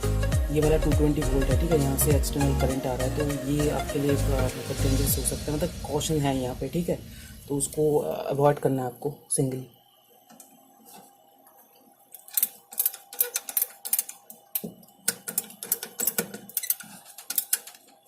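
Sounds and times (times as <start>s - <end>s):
power supply fan humming: 0.0s - 18.0s.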